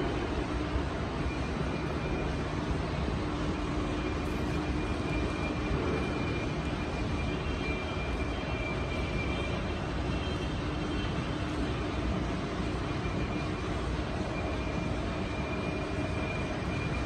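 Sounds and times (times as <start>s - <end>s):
lathe mechanical drone: 0.0s - 17.0s.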